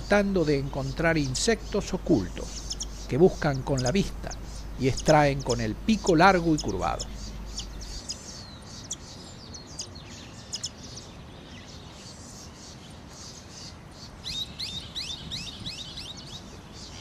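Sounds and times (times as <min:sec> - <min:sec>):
birds chirping: 0:00.0 - 0:17.0
steady outdoor hiss: 0:00.0 - 0:17.0.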